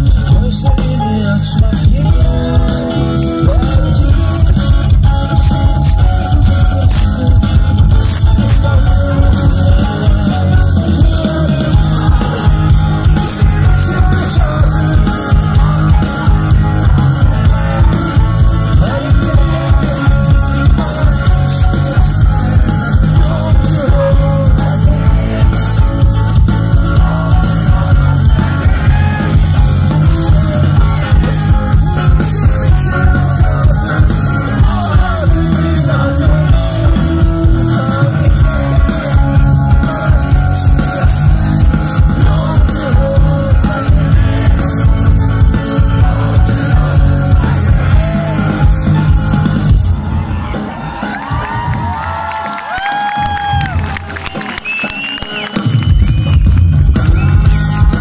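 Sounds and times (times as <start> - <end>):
male lead singer singing: 0.0 - 50.6
rock band playing live: 0.0 - 58.0.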